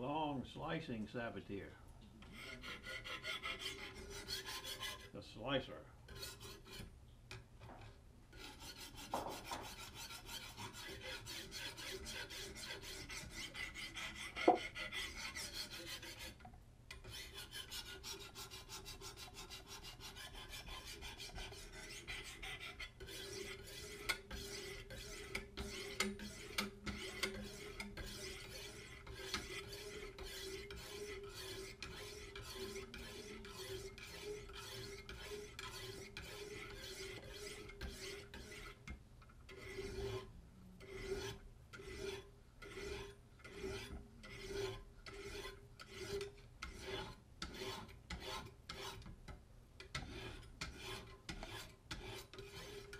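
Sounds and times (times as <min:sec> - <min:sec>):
sharpening stones rasping on blade: 0:02.4 - 0:05.1, 0:06.1 - 0:06.9, 0:08.3 - 0:38.9, 0:39.5 - 0:49.1, 0:49.8 - 0:52.9.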